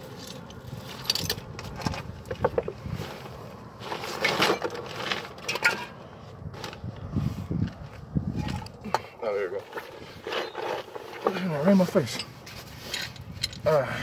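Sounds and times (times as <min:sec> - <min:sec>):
tools shuffling and scraping: 0:00.0 - 0:13.7.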